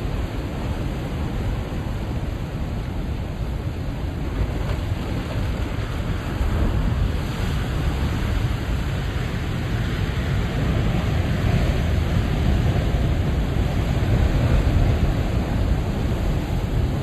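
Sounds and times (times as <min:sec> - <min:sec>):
ocean surf washing in: 0:00.0 - 0:17.0
wind rumble on microphone: 0:00.0 - 0:17.0.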